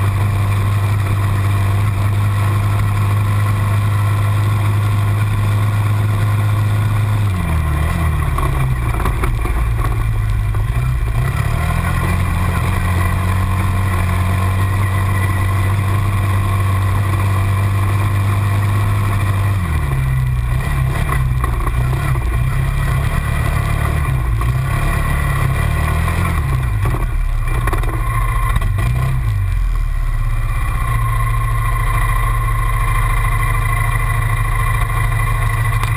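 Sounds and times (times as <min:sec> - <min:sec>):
quad bike engine revving: 0:00.0 - 0:35.9.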